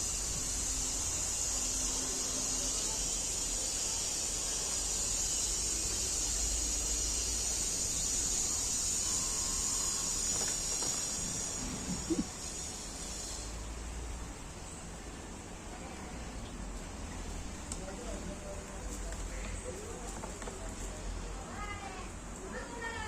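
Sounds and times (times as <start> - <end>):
insects chirring: 0.0 - 20.7.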